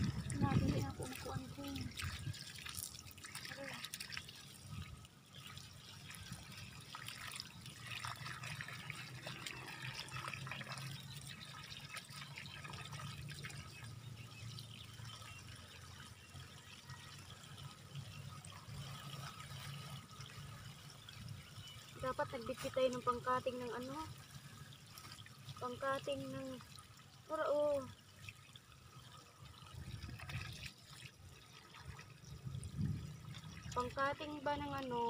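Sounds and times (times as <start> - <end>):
water spraying from leaking hose: 0.0 - 35.0.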